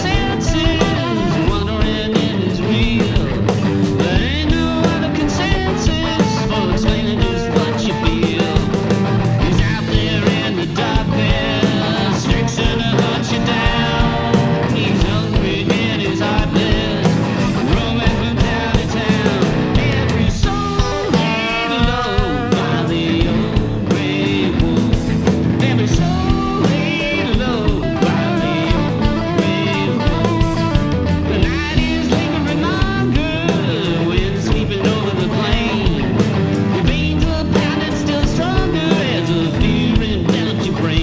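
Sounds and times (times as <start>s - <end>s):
drum kit: 0.0s - 41.0s
electric bass: 0.0s - 41.0s
electric lead guitar: 0.0s - 41.0s.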